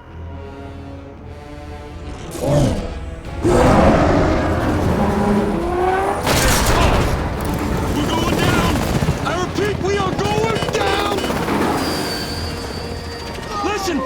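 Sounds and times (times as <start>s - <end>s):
dramatic orchestral score: 0.0s - 14.0s.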